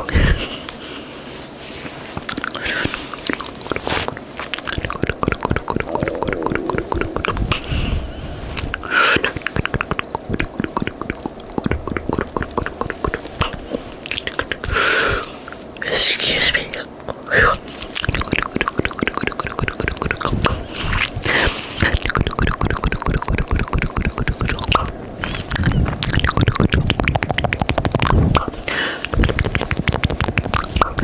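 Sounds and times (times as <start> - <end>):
wet tongue clicks and smacks: 2.3 - 7.6, 8.6 - 15.9, 17.1 - 31.0.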